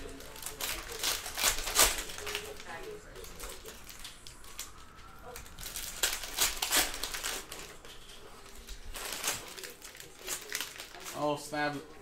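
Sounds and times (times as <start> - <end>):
card pack wrapper crinkling: 0.0 - 11.8.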